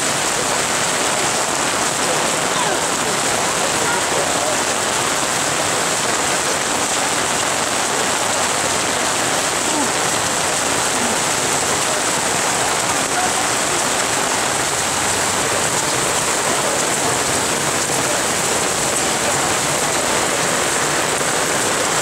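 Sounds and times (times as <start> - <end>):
heavy rain on road and ponchos: 0.0 - 22.0.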